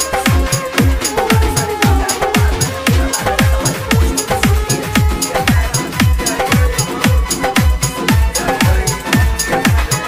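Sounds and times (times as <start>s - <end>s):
held synth line: 0.0s - 8.6s
electronic dance music: 0.0s - 10.0s
deep kick drum: 0.3s - 9.9s.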